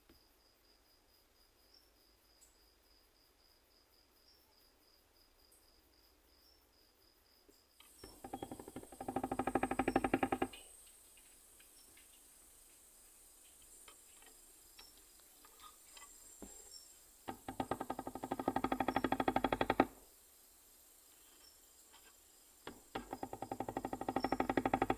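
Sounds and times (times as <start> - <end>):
katydid stridulating: 1.6 - 24.9.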